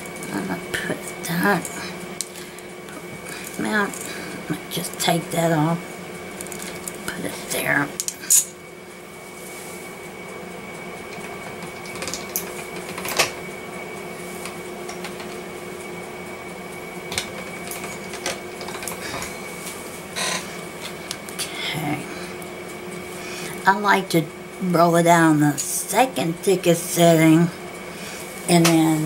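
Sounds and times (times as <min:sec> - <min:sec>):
pasta machine rolling clay: 0:00.0 - 0:29.0
steady hum: 0:00.0 - 0:29.0.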